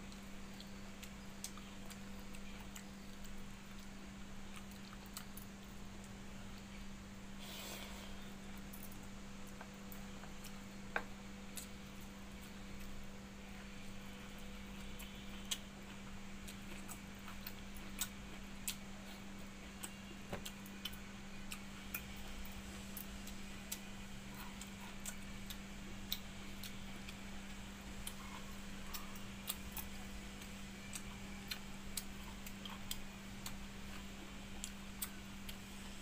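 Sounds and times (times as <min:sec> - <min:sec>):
chewing and fingers in rice: 0:00.0 - 0:36.0.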